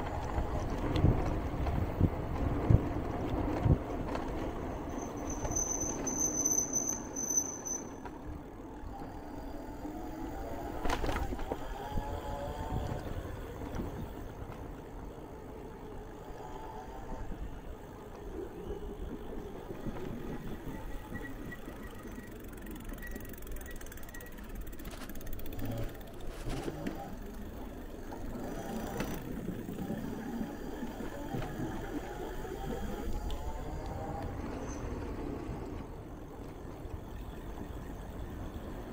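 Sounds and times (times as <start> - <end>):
wind and tyres rumbling: 0.0 - 38.9.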